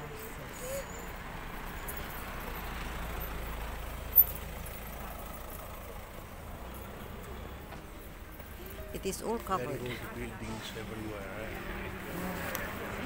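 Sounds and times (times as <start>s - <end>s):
vehicle passing with low rumble: 0.0s - 13.0s.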